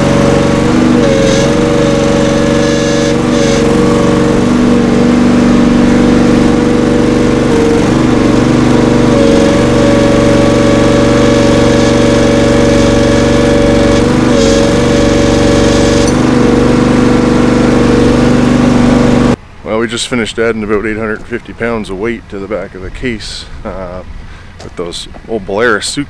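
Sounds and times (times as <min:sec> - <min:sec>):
tractor engine idling: 0:00.0 - 0:26.0.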